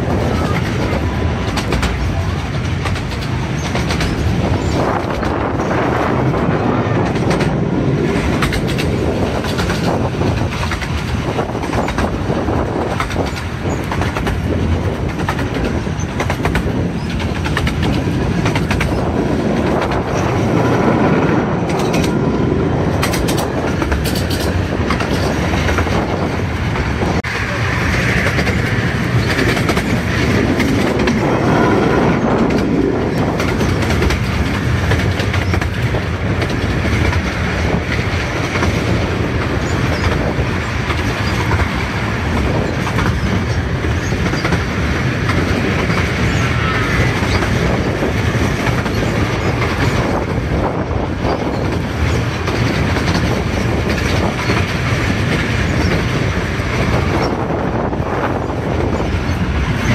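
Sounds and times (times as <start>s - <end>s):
wheels clicking over rail joints: 0.0s - 6.3s, 7.0s - 21.0s, 21.6s - 22.4s, 23.0s - 59.9s
train wheels rumbling on track: 0.0s - 59.9s.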